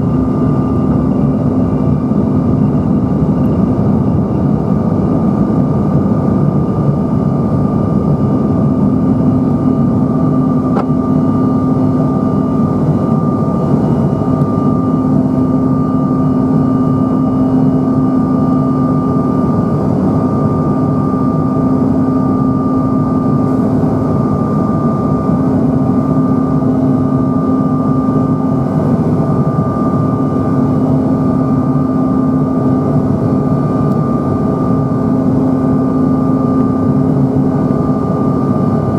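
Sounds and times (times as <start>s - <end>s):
jet engine and airflow rumble: 0.0s - 38.9s
jet engine whining tones: 0.0s - 38.9s.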